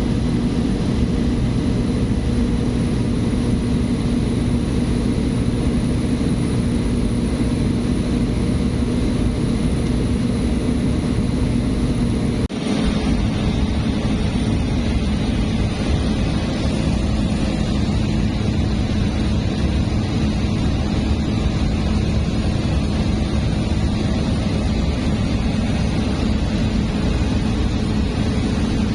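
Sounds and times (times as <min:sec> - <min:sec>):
propeller plane engine droning: 0:00.0 - 0:28.9.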